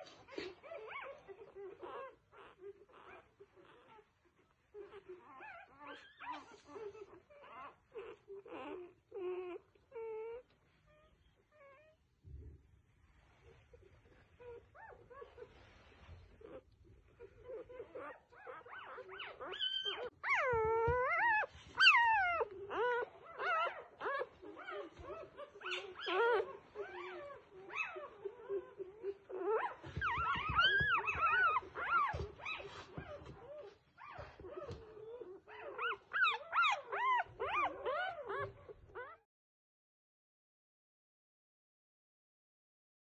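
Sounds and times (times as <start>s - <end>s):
puppies squeaking and whimpering: 0.0s - 12.0s, 13.1s - 39.3s.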